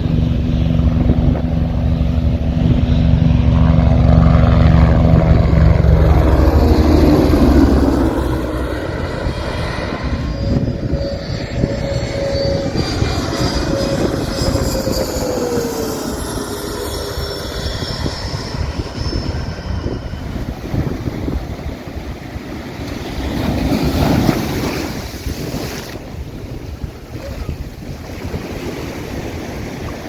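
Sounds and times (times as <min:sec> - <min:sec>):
jet airliner engines: 0:00.0 - 0:30.0.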